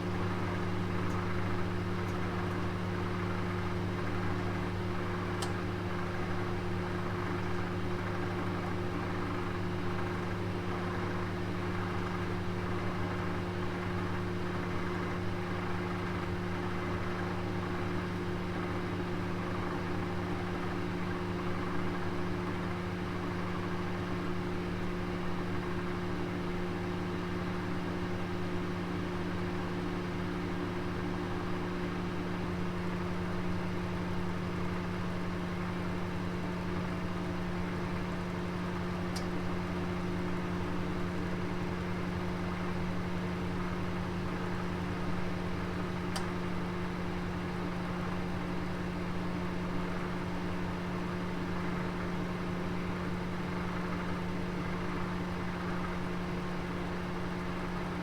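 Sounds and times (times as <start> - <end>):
oven humming with airy hiss: 0.0 - 58.0.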